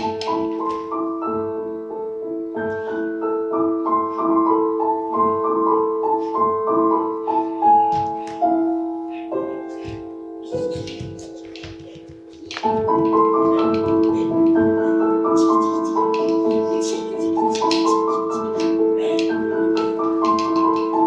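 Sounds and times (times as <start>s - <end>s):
keyboard piano melody: 0.0s - 21.0s.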